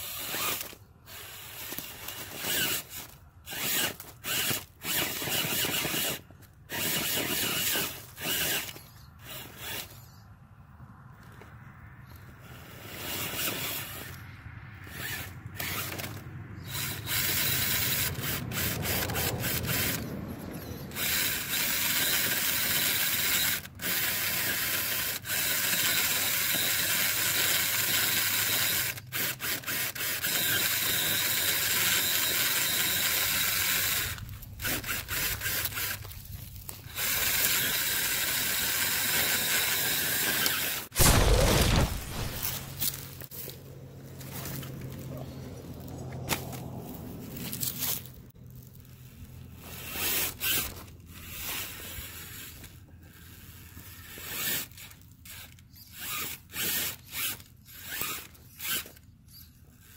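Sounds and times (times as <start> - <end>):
electric motor and gears whirring: 0.0 - 59.9.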